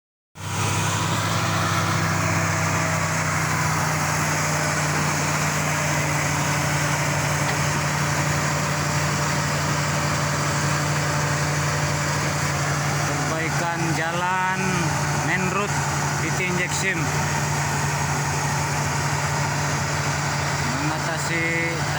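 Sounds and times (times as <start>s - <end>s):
engine running steadily: 0.4s - 21.9s.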